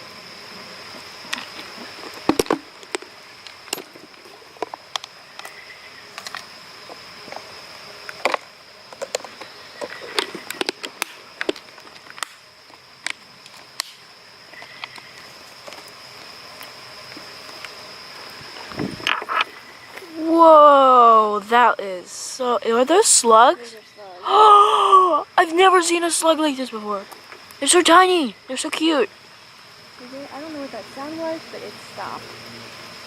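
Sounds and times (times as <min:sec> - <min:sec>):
insects trilling: 0:00.0 - 0:33.0
lower insect trill: 0:00.0 - 0:33.0.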